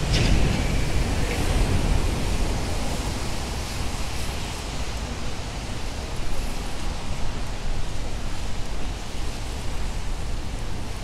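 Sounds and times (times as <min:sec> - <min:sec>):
rain on wet street: 0:00.0 - 0:11.0.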